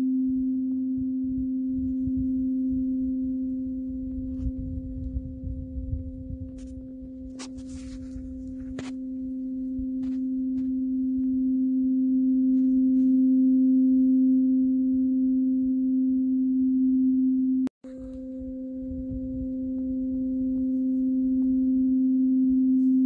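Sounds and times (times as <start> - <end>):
tuning fork ringing: 0.0 - 23.0.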